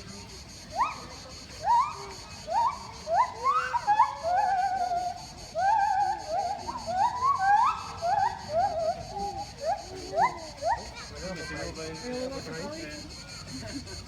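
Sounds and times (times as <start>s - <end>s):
monkeys whooping cries: 0.7s - 12.3s.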